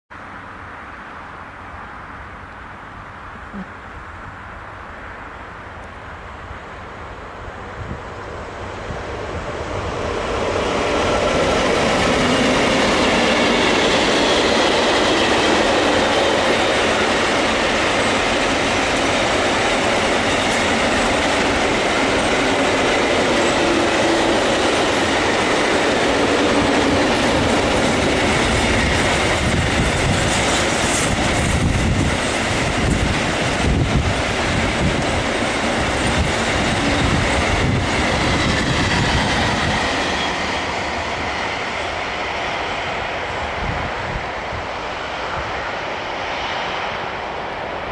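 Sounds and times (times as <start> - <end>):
freight train wheels rolling on rails: 0.3 - 47.9.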